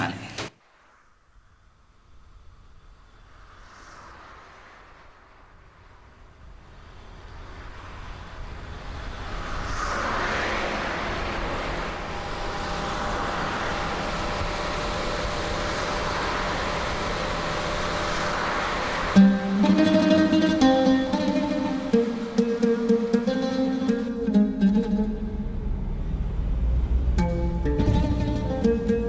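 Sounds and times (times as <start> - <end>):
minivan engine and tyre noise: 1.5 - 29.0.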